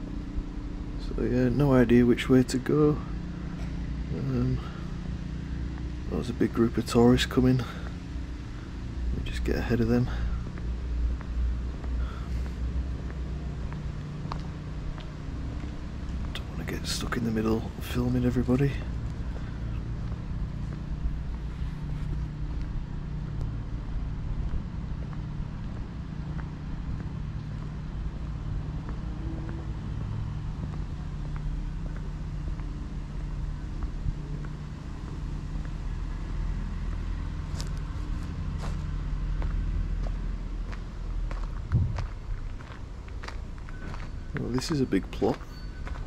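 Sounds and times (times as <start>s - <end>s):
vehicle engine humming: 0.0s - 46.0s.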